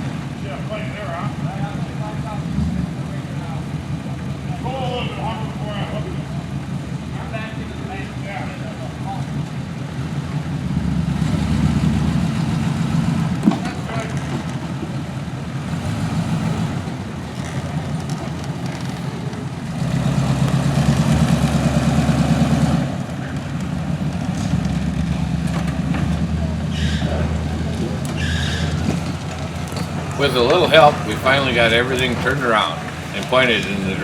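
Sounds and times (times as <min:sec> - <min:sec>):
truck engine running: 0:00.0 - 0:34.0.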